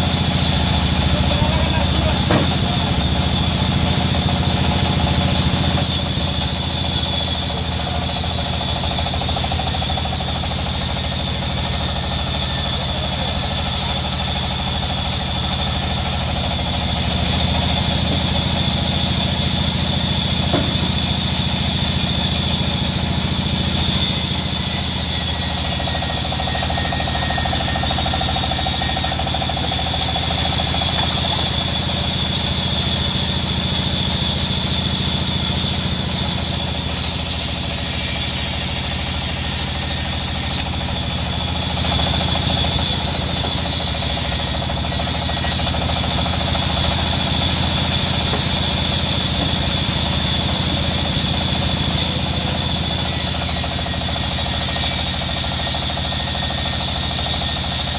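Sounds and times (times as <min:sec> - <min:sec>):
band saw drone: 0:00.0 - 0:57.9
saw blade hissing in wood: 0:00.1 - 0:57.9.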